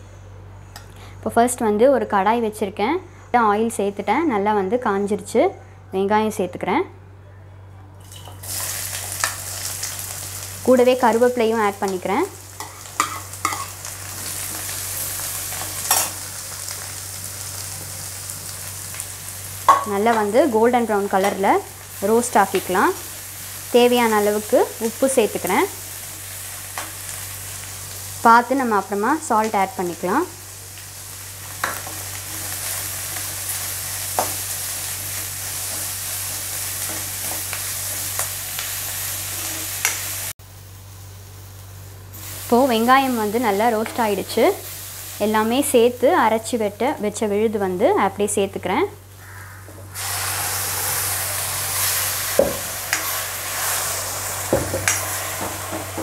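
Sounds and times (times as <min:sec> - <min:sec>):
onions sizzling in hot oil: 0:08.0 - 0:48.4, 0:49.1 - 0:56.0.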